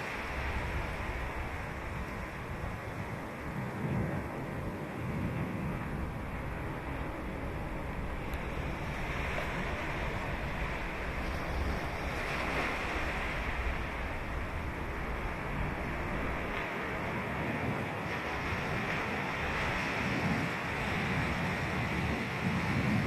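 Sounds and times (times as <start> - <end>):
ocean waves breaking on beach: 0.0 - 23.0
wind rumble on microphone: 0.0 - 23.0.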